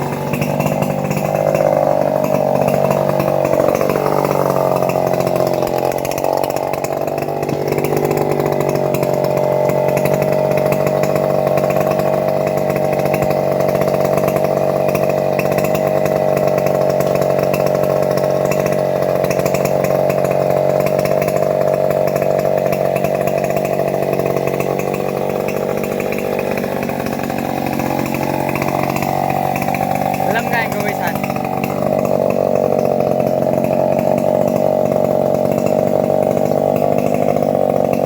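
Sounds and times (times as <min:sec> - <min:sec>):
motor saw cutting wood: 0:00.0 - 0:38.0.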